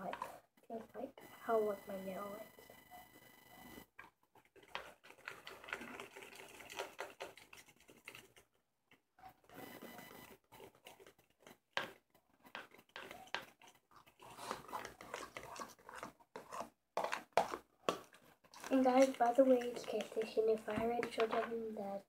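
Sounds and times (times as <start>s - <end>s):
spoon stirring slime in bowl: 0.0s - 2.5s, 3.7s - 8.6s, 9.2s - 21.6s.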